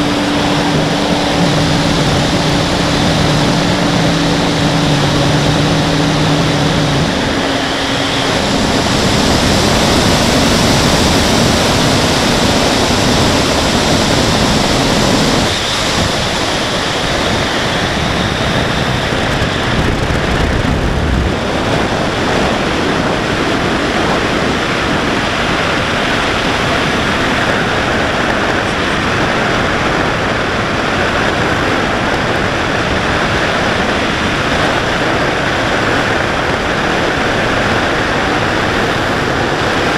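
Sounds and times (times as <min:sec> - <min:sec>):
electric motor and propeller hum: 0:00.0 - 0:39.9
wind rushing over microphone: 0:00.0 - 0:39.9.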